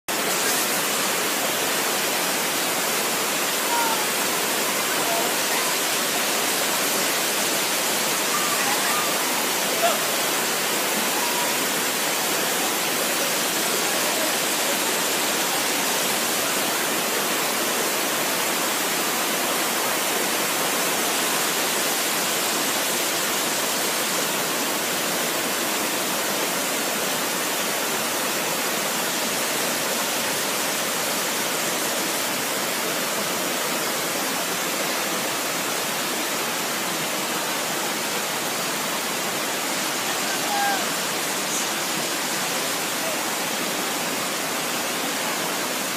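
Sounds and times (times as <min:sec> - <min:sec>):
waterfall rushing over rock: 0:00.1 - 0:45.9.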